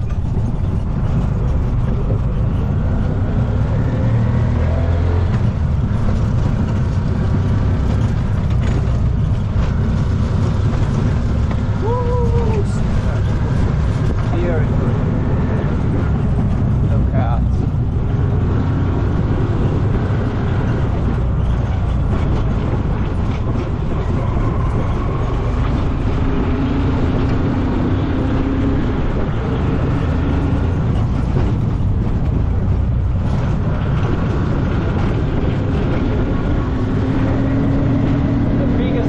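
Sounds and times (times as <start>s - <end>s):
engine hum: 0.0s - 39.0s
vehicle rumble on dirt road: 0.0s - 39.0s.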